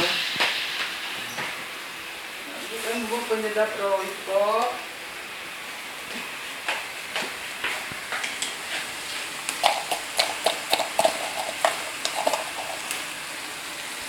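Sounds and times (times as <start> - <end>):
mushrooms sizzling in a wok: 0.0 - 14.0.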